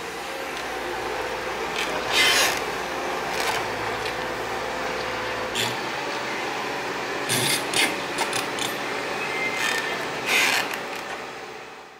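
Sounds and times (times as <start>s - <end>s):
excavator engine running: 0.0s - 11.9s.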